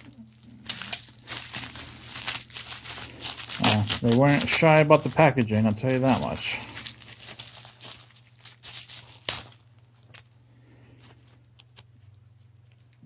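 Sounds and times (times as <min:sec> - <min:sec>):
low steady hum: 0:00.0 - 0:13.0
plastic packaging crinkling: 0:00.0 - 0:13.0.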